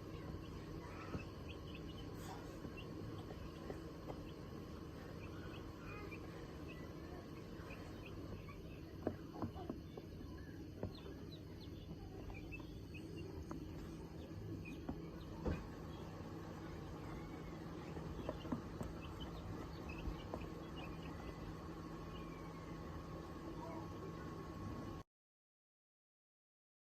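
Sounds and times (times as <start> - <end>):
ducks peeping: 0.0 - 24.2
low background hum: 0.0 - 25.0.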